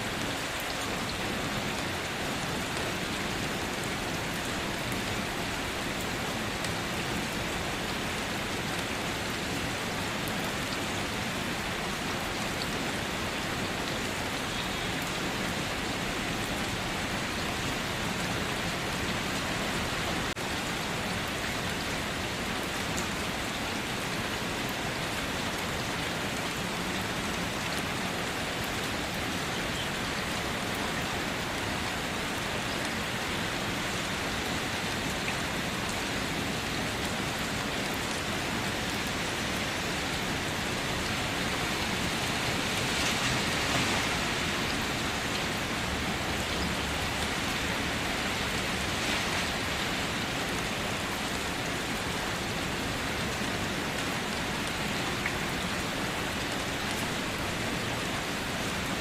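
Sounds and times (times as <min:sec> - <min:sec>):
rain pattering on surfaces: 0:00.0 - 0:59.0.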